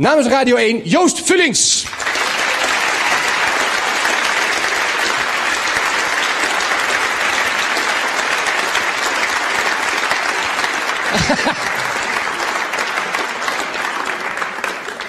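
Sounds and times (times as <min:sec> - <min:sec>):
audience applauding: 0:01.8 - 0:15.0.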